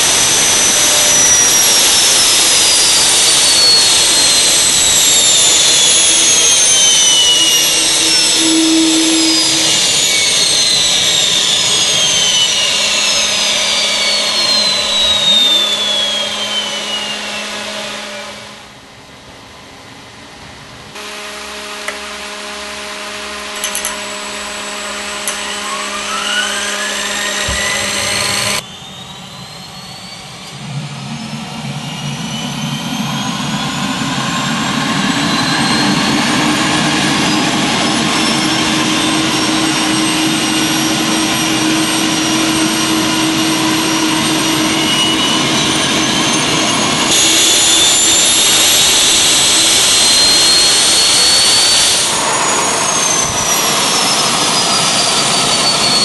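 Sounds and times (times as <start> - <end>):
rushing noise: 0.0 - 18.8, 24.7 - 56.0
turbine whines rising: 0.0 - 56.0.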